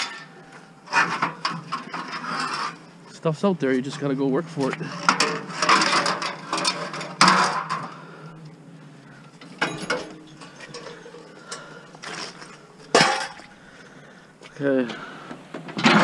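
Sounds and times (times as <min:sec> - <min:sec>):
scrap metal clattering and scraping: 0:00.0 - 0:08.4, 0:09.2 - 0:14.1, 0:15.4 - 0:16.0.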